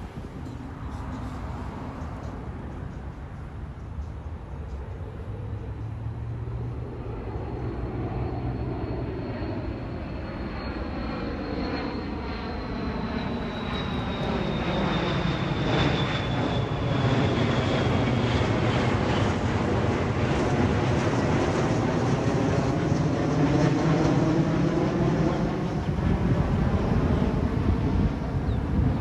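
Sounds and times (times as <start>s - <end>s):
high fan whine: 0.0s - 29.0s
jet airliner engines: 0.0s - 29.0s.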